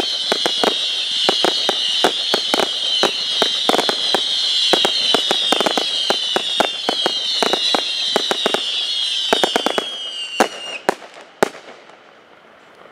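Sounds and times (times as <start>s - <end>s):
firework bangs: 0.0s - 12.0s.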